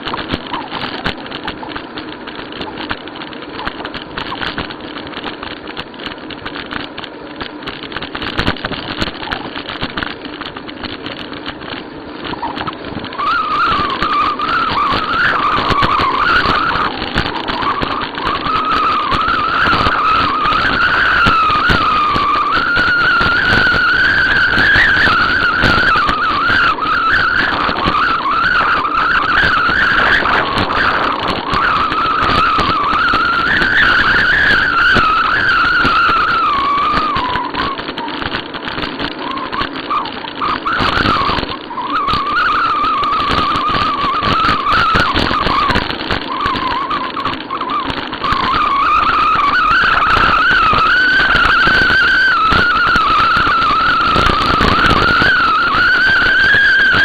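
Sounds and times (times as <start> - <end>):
bicycle rushing noise: 0.0 - 57.0
wavering squeal: 0.0 - 57.0.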